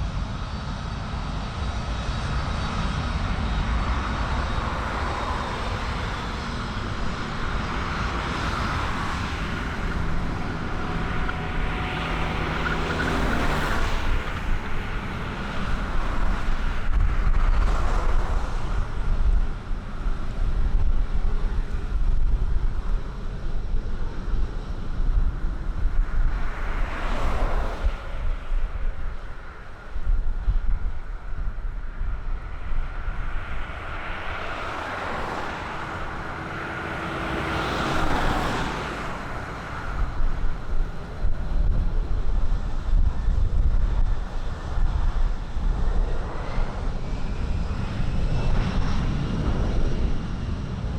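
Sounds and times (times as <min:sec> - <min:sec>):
aircraft engine drone: 0:00.0 - 0:50.9
wind buffeting microphone: 0:00.0 - 0:50.9.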